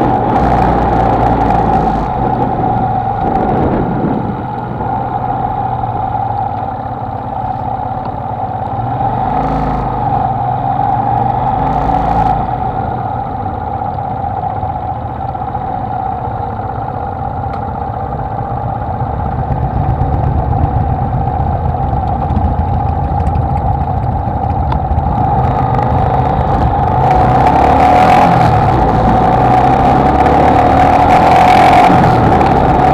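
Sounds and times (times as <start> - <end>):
motorcycle engine running: 0.0 - 32.9
wind and road noise: 0.0 - 32.9.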